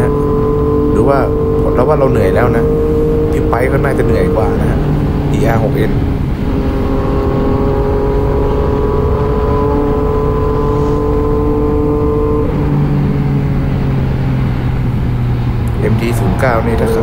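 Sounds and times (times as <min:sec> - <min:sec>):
motorcycle engine at high revs: 0:00.0 - 0:17.0
wind rush on microphone: 0:00.0 - 0:17.0.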